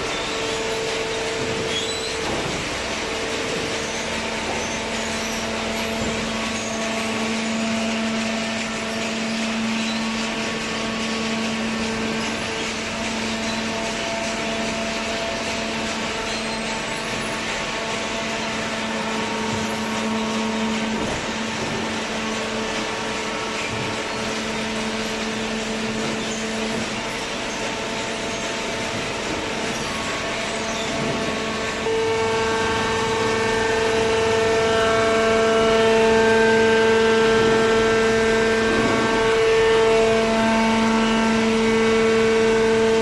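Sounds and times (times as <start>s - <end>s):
hydraulic baler running: 0.0s - 43.0s.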